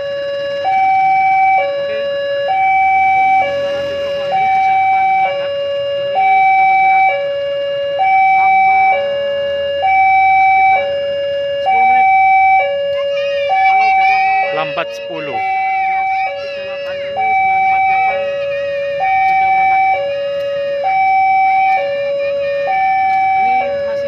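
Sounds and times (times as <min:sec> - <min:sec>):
two-tone level crossing alarm: 0:00.0 - 0:24.0.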